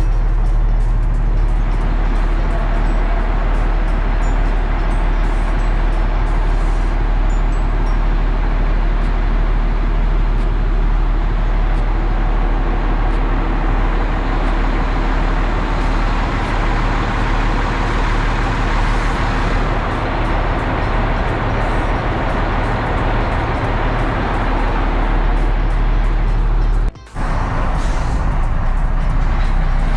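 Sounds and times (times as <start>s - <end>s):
heavy engine droning: 0.0s - 29.9s.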